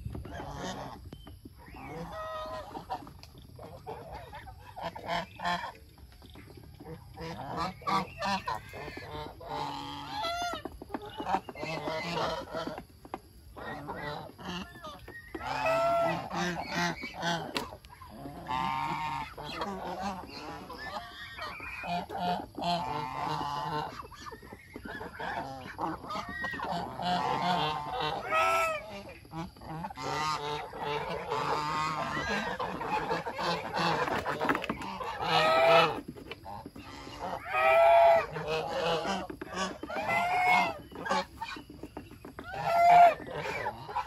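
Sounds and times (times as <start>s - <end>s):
geese honking: 0.2s - 1.0s, 1.6s - 5.8s, 6.8s - 12.9s, 13.5s - 44.0s.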